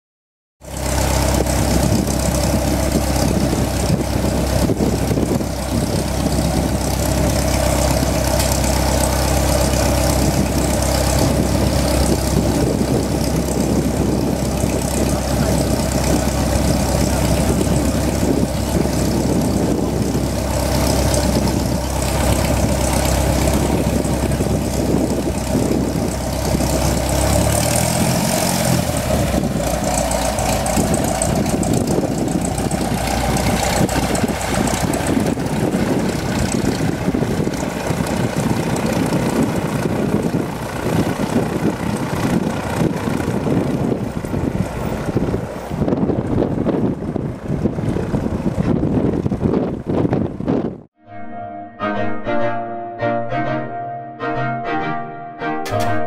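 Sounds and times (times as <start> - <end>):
small propeller plane taxiing: 0.6 - 50.8.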